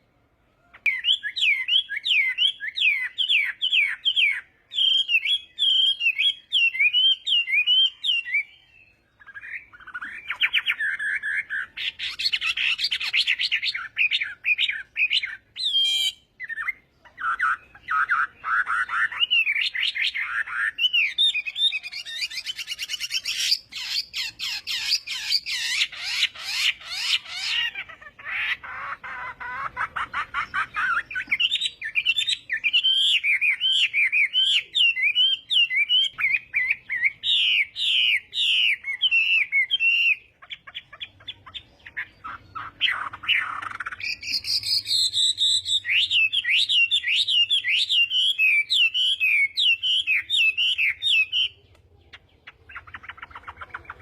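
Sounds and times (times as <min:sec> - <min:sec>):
bird singing warbling song: 0:00.0 - 0:54.0.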